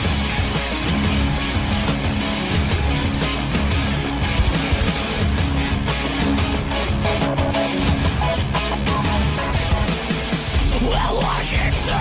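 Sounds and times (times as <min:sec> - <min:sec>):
rock song with electric guitar: 0:00.0 - 0:12.0.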